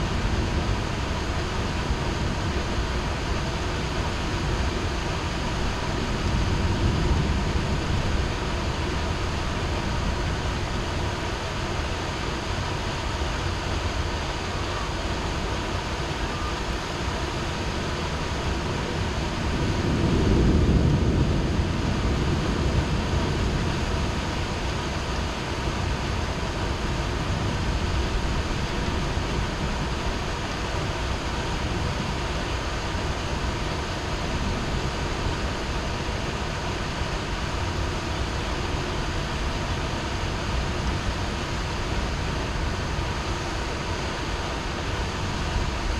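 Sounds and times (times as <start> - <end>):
low rumble of thunder: 0.0 - 11.7, 17.6 - 43.5
heavy rain falling: 0.0 - 45.9.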